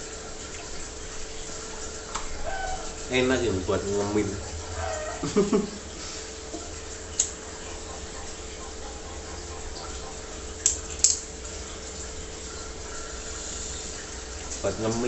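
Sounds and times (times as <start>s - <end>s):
low hum: 0.0s - 14.9s
water trickling: 0.0s - 15.0s.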